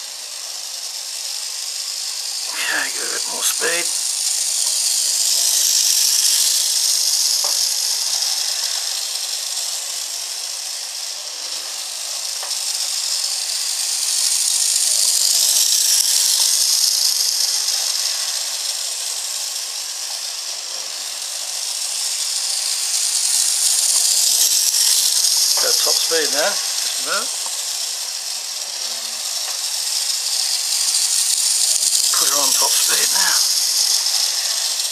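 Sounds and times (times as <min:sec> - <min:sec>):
model tram motor whirring: 0:00.0 - 0:34.9.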